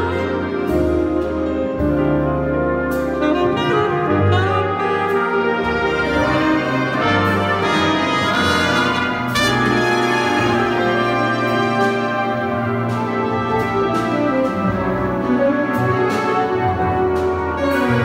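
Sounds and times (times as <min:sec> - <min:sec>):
brass chords: 0:00.0 - 0:18.0
jazz big band playing: 0:00.0 - 0:18.0.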